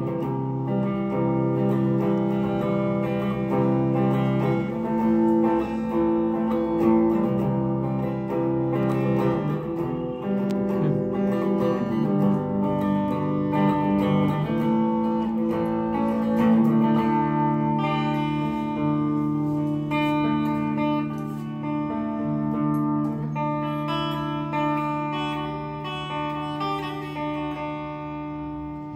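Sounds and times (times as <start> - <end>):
electric guitar notes and chords: 0.0 - 28.9.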